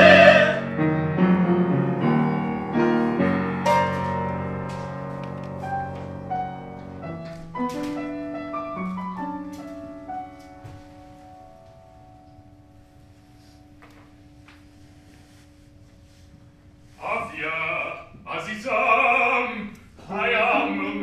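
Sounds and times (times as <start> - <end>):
slow piano passage: 0.0 - 21.0.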